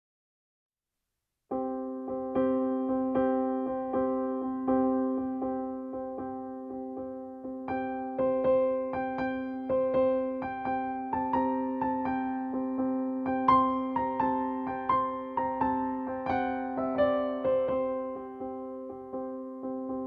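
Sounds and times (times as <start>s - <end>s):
gentle piano chords: 1.5s - 20.0s.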